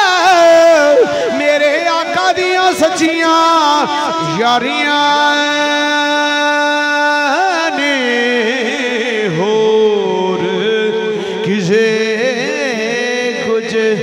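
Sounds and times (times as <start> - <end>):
man singing a long vowel: 0.0 - 14.0.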